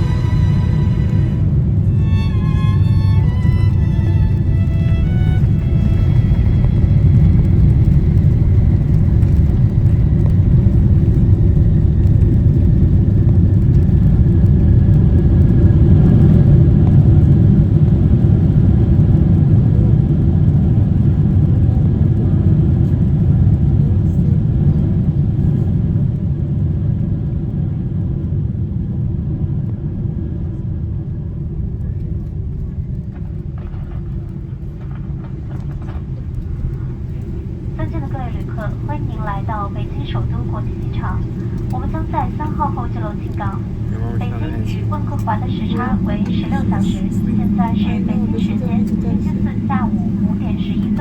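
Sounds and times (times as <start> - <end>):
airliner cabin rumble on landing: 0.0 - 51.0.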